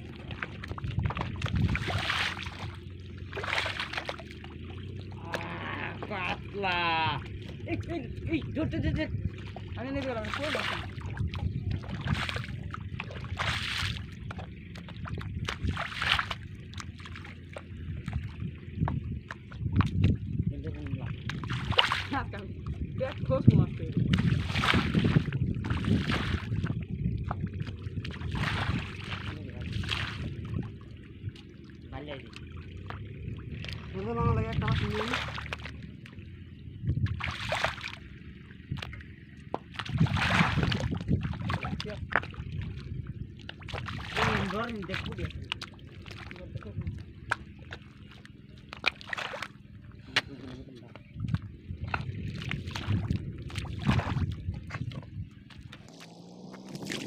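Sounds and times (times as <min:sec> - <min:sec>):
feet wading in water: 0:00.0 - 0:57.0
muddy water splashing: 0:00.0 - 0:57.0
wind rumble on microphone: 0:00.0 - 0:57.0.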